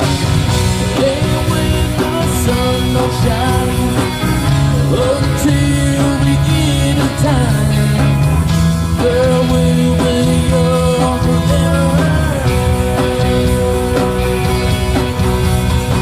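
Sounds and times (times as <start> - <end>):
person singing: 0.0 - 14.6
electric guitar: 0.0 - 16.0.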